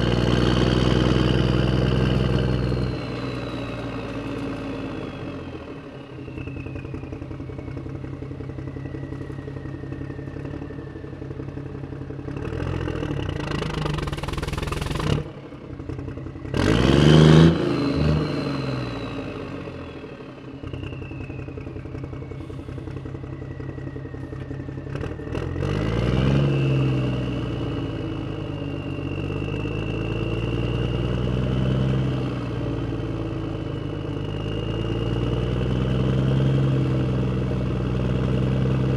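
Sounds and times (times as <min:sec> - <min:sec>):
gliding whine: 0:00.0 - 0:38.9
vehicle engine running: 0:00.0 - 0:38.9.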